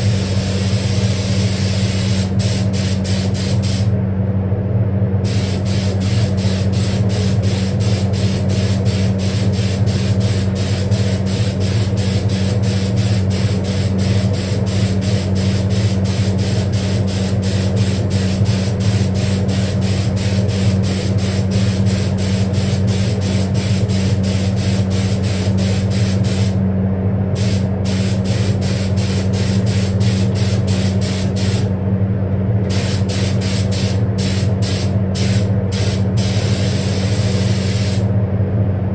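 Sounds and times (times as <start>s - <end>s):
spray gun hissing: 0.0s - 3.9s, 5.3s - 26.6s, 27.4s - 31.7s, 32.7s - 38.1s
extraction fan humming: 0.0s - 38.9s.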